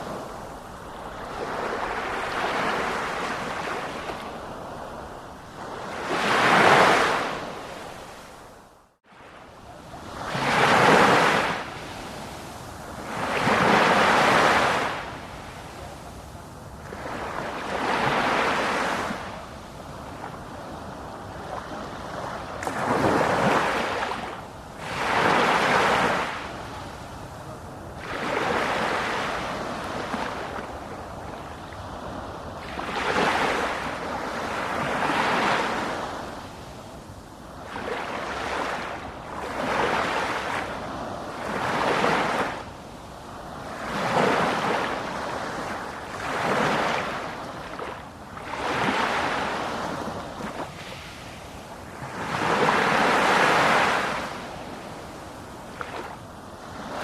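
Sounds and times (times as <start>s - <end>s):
sea waves breaking ashore: 0.0s - 57.0s.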